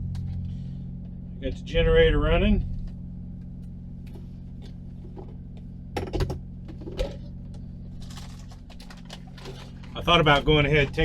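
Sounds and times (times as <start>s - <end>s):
generator humming: 0.0s - 11.0s.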